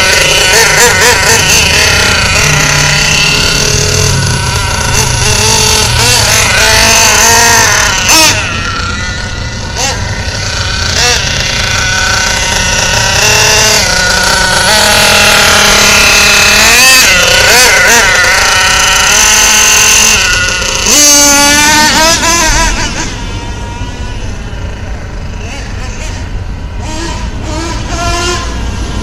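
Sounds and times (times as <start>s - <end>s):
small nitro engine revving: 0.0s - 29.0s.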